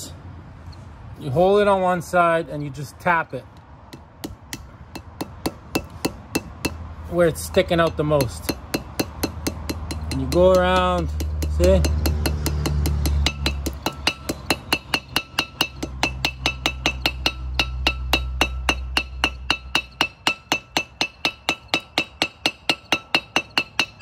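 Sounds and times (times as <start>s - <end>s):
hammer tapping on metal: 3.9s - 6.9s, 7.5s - 24.0s.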